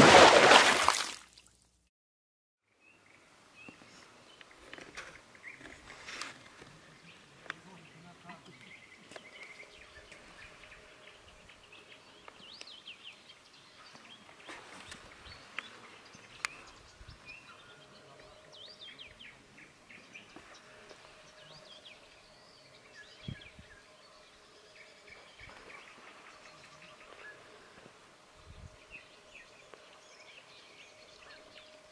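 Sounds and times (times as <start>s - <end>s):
songbirds singing: 2.7s - 31.9s.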